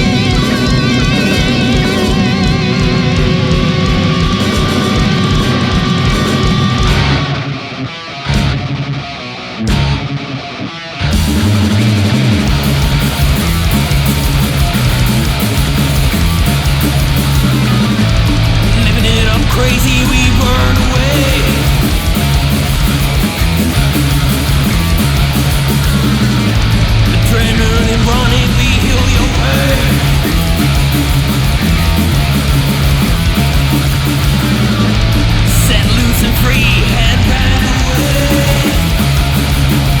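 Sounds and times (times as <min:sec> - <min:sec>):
distorted electric guitars: 0:00.0 - 0:40.0
drums: 0:00.0 - 0:40.0
heavy metal song: 0:00.0 - 0:40.0.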